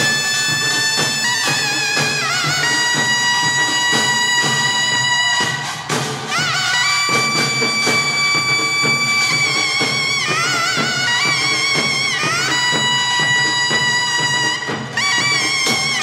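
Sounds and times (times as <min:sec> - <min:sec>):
percussion ensemble: 0:00.0 - 0:16.0
shawm holding high notes: 0:00.0 - 0:16.0.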